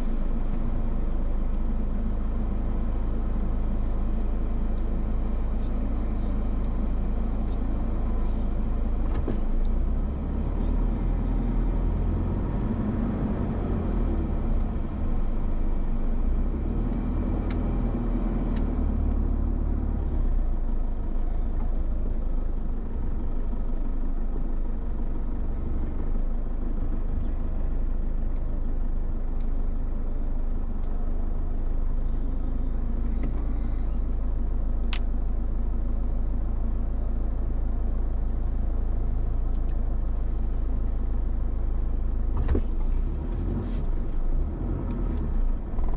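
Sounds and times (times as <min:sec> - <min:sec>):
car engine and road noise: 0:00.0 - 0:45.9.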